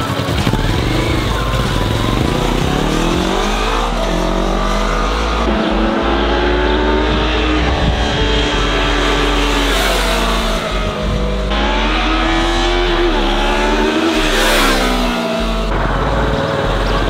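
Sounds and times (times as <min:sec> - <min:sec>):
motorcycle accelerating: 0:00.0 - 0:17.0
low wind rumble: 0:00.3 - 0:17.0.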